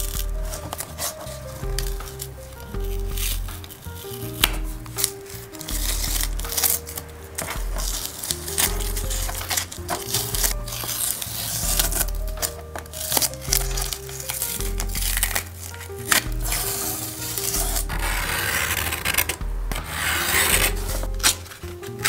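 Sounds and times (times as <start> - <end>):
background music: 0.0 - 22.0
masking tape peeling off paper: 0.0 - 22.0
paper ripping: 0.0 - 22.0.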